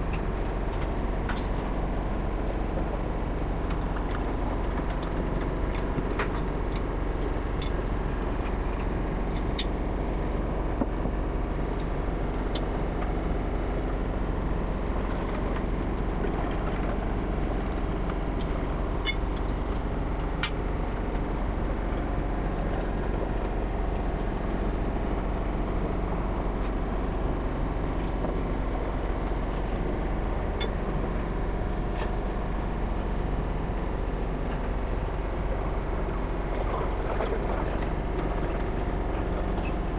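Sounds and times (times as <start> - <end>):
workshop machinery hum: 0.0 - 39.9.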